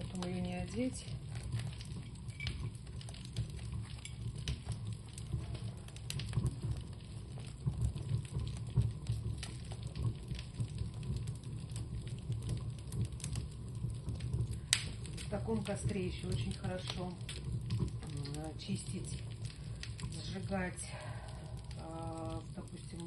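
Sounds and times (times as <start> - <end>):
fire crackling and popping: 0.0 - 23.0
rush of flame: 0.0 - 23.0.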